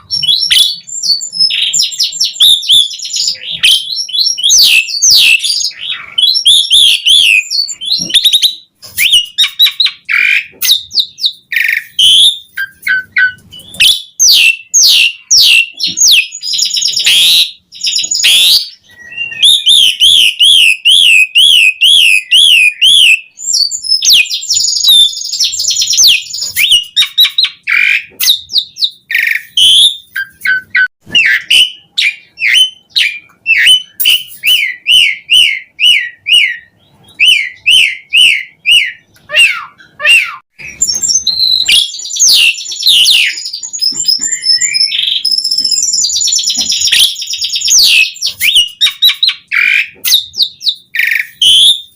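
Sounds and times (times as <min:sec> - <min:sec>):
starling singing: 0:00.0 - 0:51.9.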